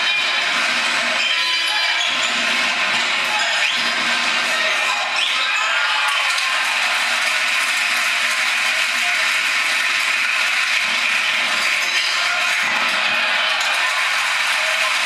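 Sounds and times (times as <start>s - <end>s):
crowd din in sports hall: 0.0s - 15.0s.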